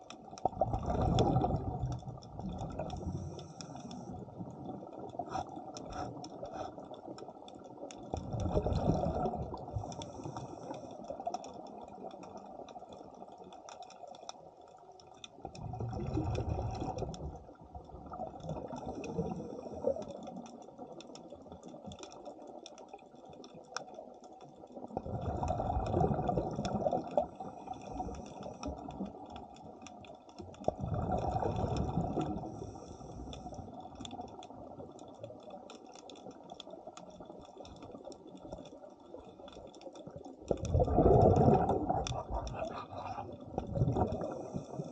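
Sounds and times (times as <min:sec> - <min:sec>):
faint clicking: 0:00.0 - 0:44.9
underwater exhaled bubbles: 0:00.0 - 0:44.9.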